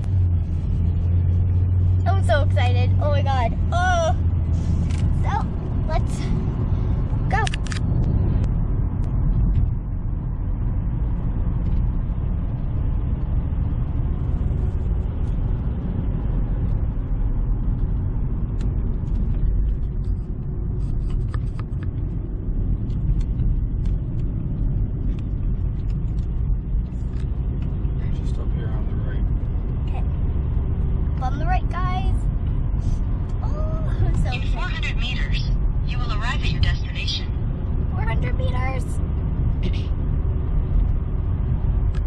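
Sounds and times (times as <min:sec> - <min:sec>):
car engine and tyre drone: 0:00.0 - 0:42.0.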